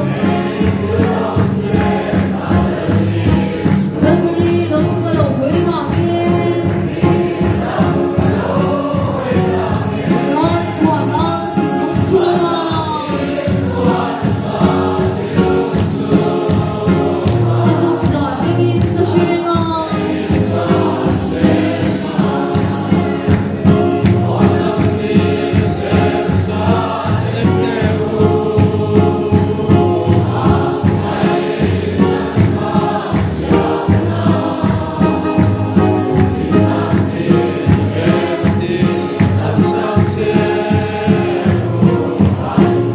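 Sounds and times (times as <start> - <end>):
congregation singing a hymn: 0.0 - 42.9
steady beat: 0.0 - 42.9.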